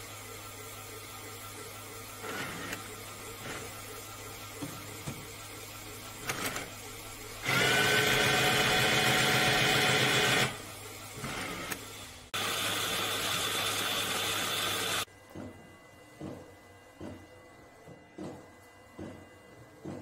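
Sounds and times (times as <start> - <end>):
printer mechanical whine: 0.0 - 20.0.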